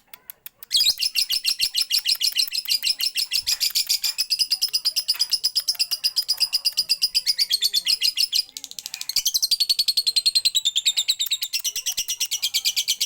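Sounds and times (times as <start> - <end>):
lovebird chattering: 0.2 - 13.0.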